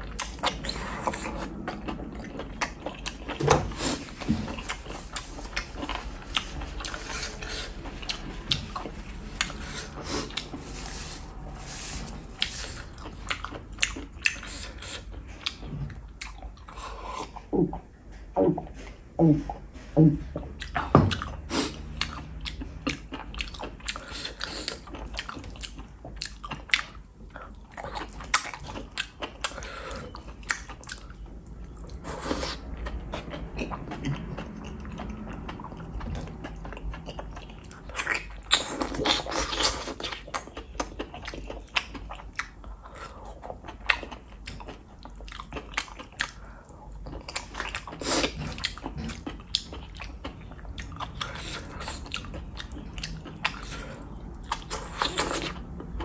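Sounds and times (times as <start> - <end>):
person chewing wetly: 0.0 - 11.4, 12.2 - 56.0.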